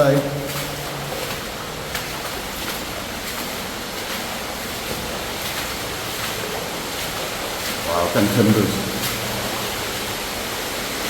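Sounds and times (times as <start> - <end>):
underground waterfall rushing: 0.0 - 11.0.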